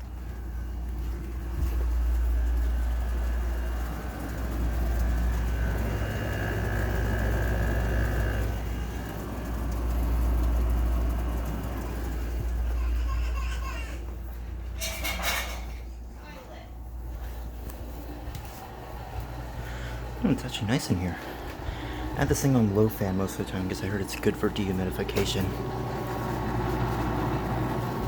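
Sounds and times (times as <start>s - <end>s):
air conditioner hum: 0.0s - 28.0s.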